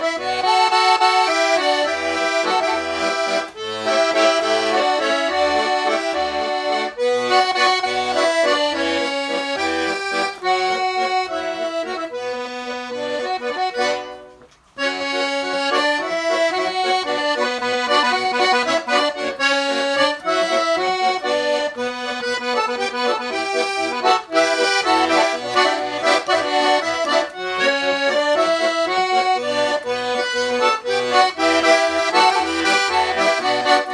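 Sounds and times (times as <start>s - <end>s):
button accordion melody: 0.0s - 33.9s.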